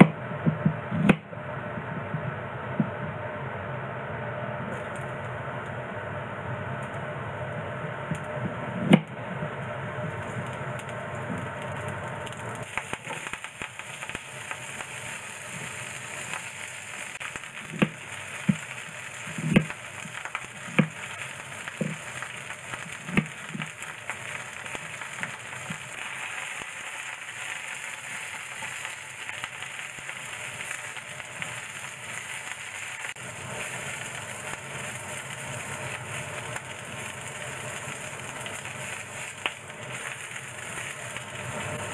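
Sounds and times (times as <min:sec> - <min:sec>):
onions sizzling in skillet: 0:04.6 - 0:06.0, 0:06.6 - 0:41.9.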